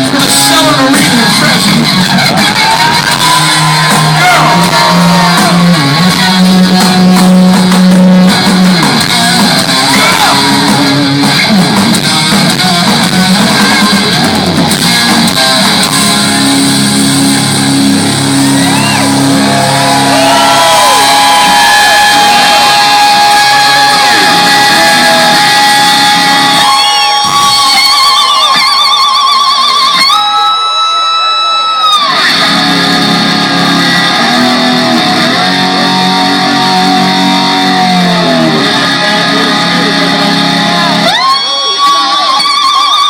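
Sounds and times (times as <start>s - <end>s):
electric guitar bending notes: 0.0s - 43.0s
rock band playing: 0.0s - 43.0s.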